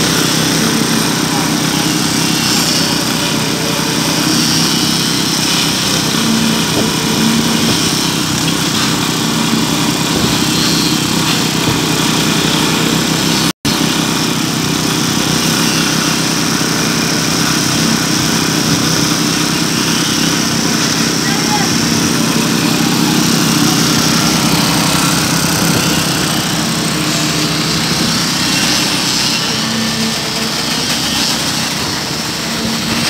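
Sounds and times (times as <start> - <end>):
small petrol engine running: 0.0 - 33.0.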